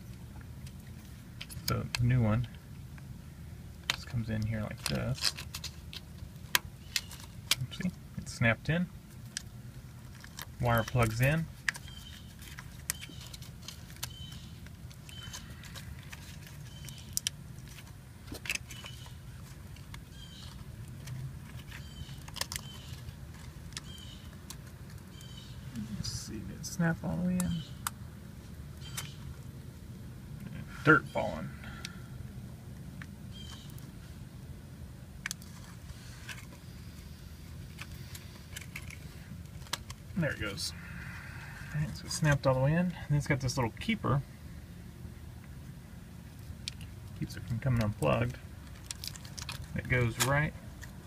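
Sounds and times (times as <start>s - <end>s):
low steady rumble: 0.0s - 51.0s.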